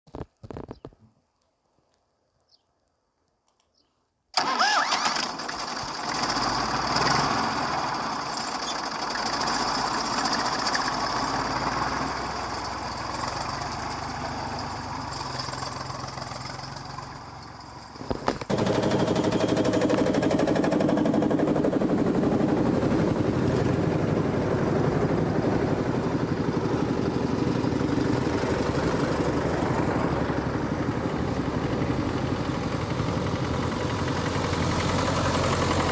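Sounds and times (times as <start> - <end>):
tractor engines running: 4.4 - 35.9.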